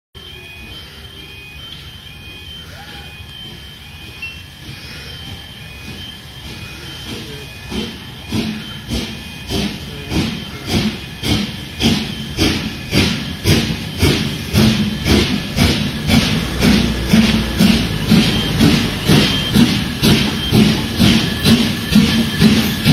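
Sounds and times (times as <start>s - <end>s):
steam hissing: 0.2s - 22.9s
steam locomotive exhaust chuffs: 0.2s - 22.9s.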